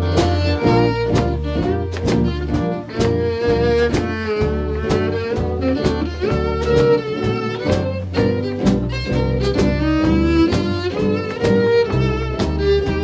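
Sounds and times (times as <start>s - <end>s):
double bass notes: 0.0s - 13.0s
rhythm guitars strumming: 0.0s - 13.0s
violin melody: 0.0s - 13.0s.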